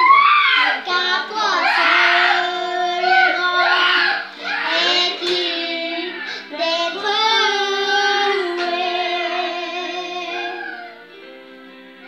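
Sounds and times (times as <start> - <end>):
girl singing long notes: 0.4 - 11.0.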